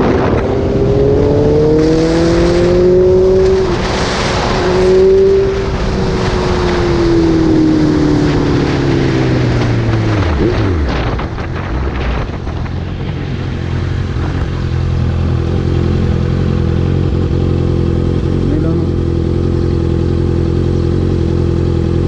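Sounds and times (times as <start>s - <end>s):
wind rush: 0.0s - 18.3s
motorcycle engine slowing: 0.0s - 22.0s.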